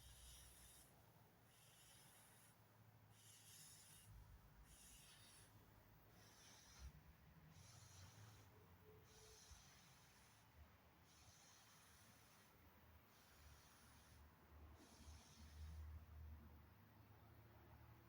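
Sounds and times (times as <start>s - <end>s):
soft rhythmic breathing: 0.0s - 16.4s.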